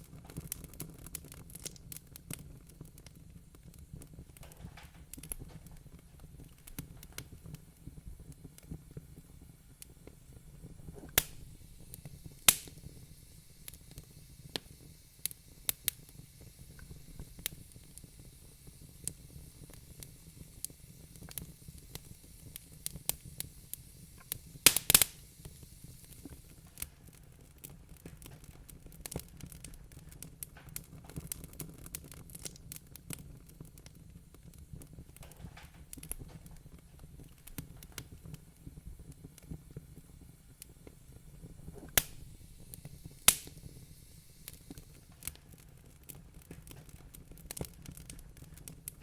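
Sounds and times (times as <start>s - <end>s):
low rumble of burning fire: 0.0s - 49.0s
wood fire crackling and popping: 0.0s - 49.0s.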